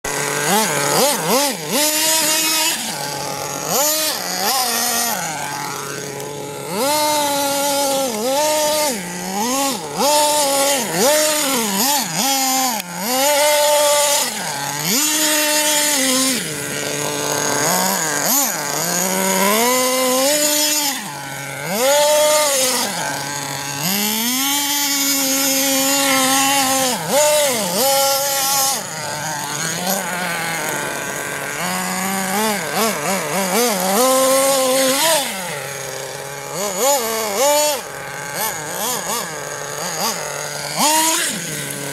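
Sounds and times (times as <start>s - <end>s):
small nitro engine revving: 0.0s - 41.9s.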